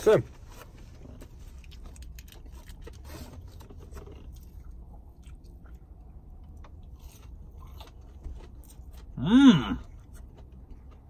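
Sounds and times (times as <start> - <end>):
low steady hum: 0.0 - 11.0
crunchy chewing: 1.1 - 11.0.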